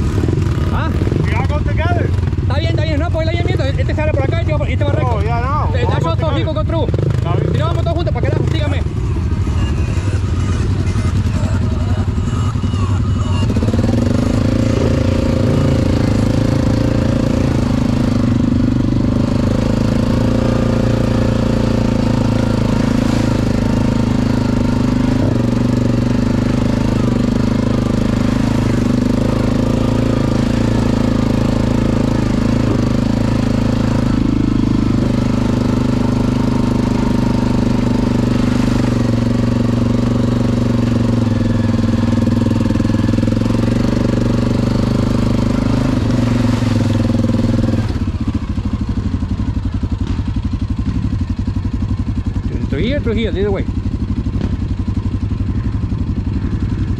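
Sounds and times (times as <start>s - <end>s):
atv engine running: 0.0s - 56.9s.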